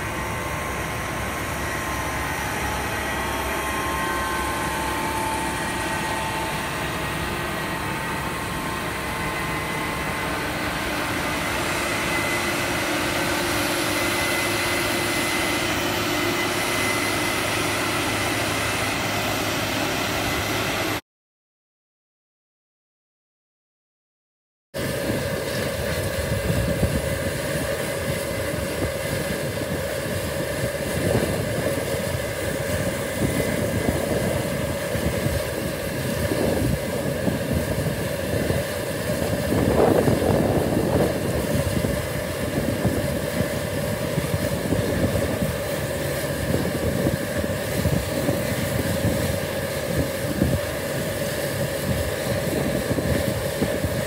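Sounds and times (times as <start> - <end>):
combine harvester engine drone: 0.0 - 21.0, 24.8 - 54.0
constant machinery whine: 0.0 - 21.0, 24.8 - 54.0.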